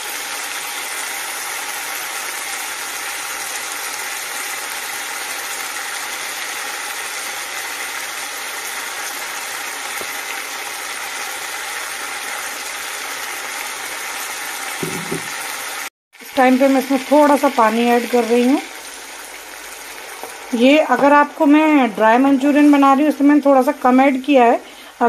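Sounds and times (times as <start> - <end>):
vegetables sizzling in a wok: 0.0 - 25.0.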